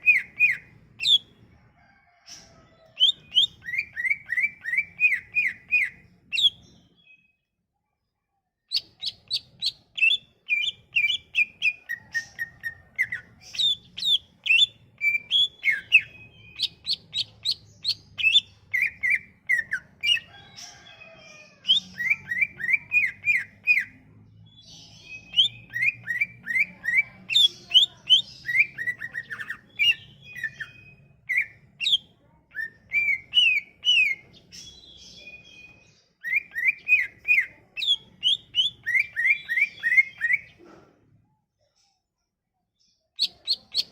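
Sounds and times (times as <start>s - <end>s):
bird singing chirps and trills: 0.0s - 1.5s, 2.3s - 7.5s, 8.7s - 40.6s, 42.8s - 43.9s.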